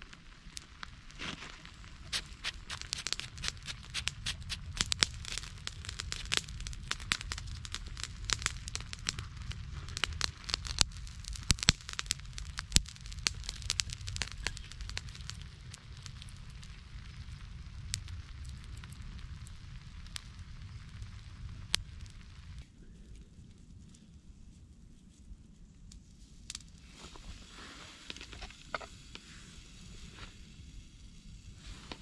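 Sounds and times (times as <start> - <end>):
steady low rumble: 0.0 - 26.0
campfire crackling and popping: 0.0 - 32.0.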